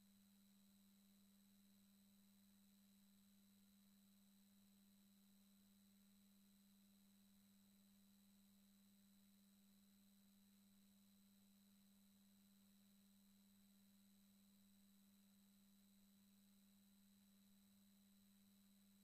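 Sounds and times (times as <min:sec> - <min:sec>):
faint high whine: 0:00.0 - 0:19.0
faint low hum: 0:00.0 - 0:19.0.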